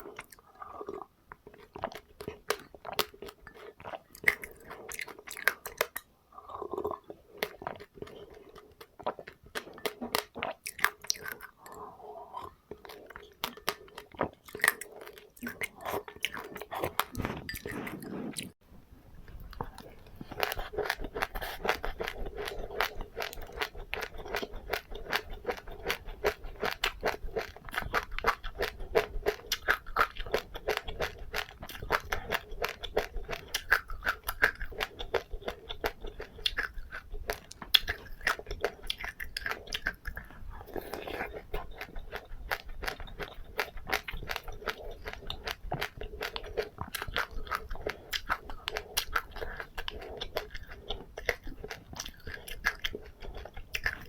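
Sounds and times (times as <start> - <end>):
person chewing crunchy seeds: 0.0 - 18.6, 19.4 - 54.0.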